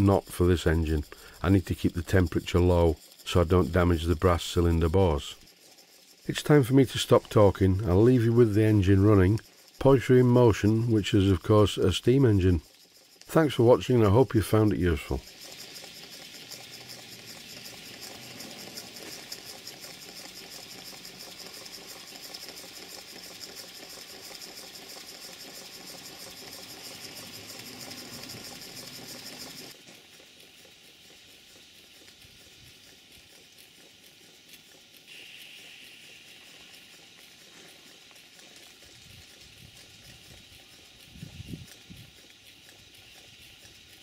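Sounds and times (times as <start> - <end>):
steam engine exhaust beats: 0.0 - 44.0
steam hissing: 0.0 - 44.0.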